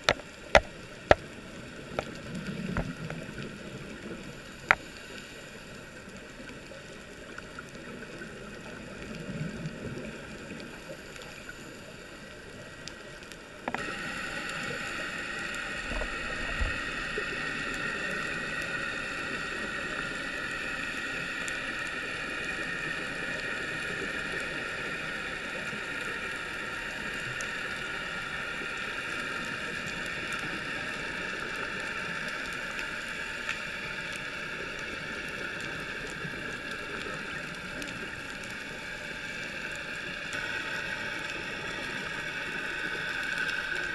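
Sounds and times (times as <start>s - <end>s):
underwater hiss: 0.0s - 43.9s.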